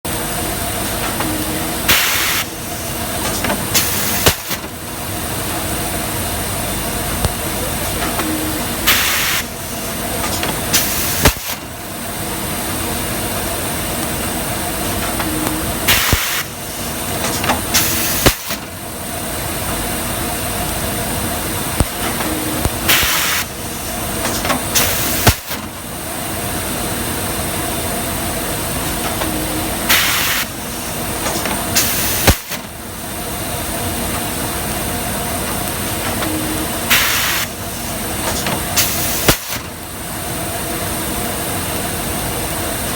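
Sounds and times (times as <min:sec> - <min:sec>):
machine low hum: 0:00.1 - 0:42.9.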